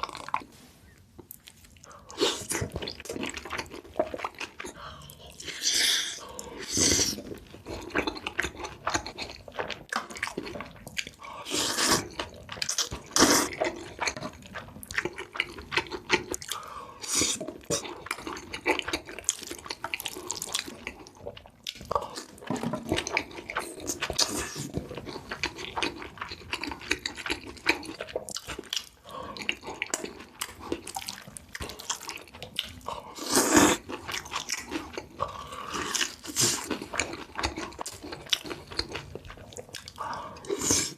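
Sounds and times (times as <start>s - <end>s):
wet chewing and slurping: 0.0s - 40.9s.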